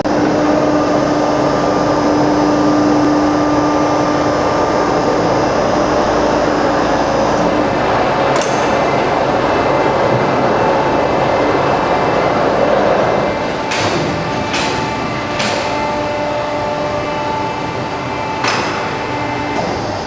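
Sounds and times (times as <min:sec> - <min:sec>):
drilling machine running: 0:00.0 - 0:20.0.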